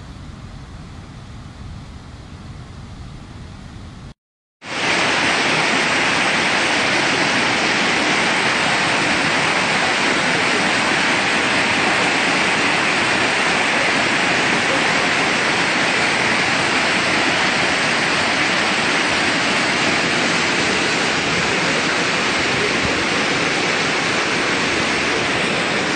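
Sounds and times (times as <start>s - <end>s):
waterfall rushing over rocks: 4.6s - 25.9s.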